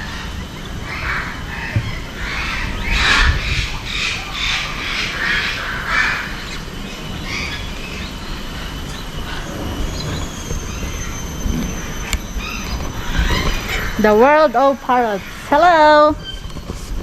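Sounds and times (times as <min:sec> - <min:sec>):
parrot calls: 0:00.0 - 0:16.5
steady low rumble: 0:00.0 - 0:17.0.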